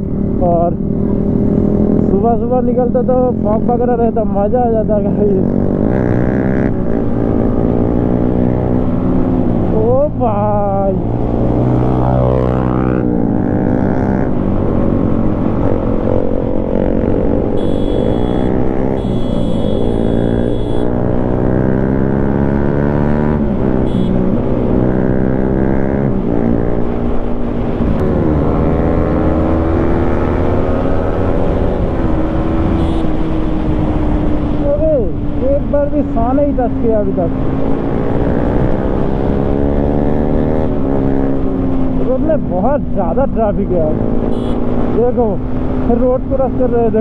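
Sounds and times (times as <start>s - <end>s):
motorcycle engine accelerating: 4.8s - 35.5s, 37.3s - 42.1s, 43.7s - 46.0s.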